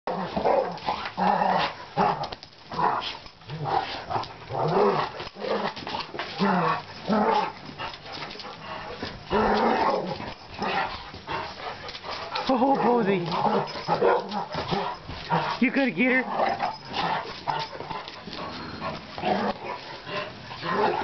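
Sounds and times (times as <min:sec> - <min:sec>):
dogs growling: 0:00.1 - 0:21.0.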